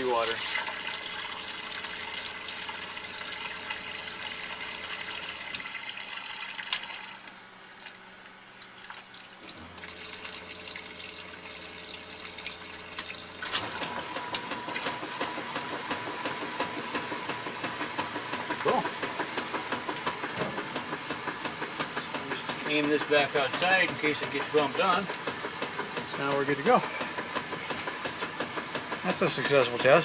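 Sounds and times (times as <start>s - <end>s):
water rushing into washing machine: 0.0s - 30.0s.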